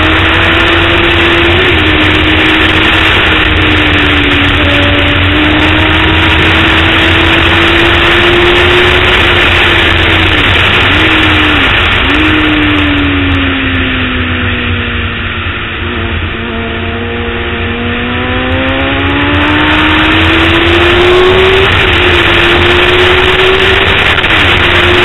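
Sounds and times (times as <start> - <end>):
motorcycle engine at speed: 0.0 - 25.0
wind rush on microphone: 0.0 - 25.0.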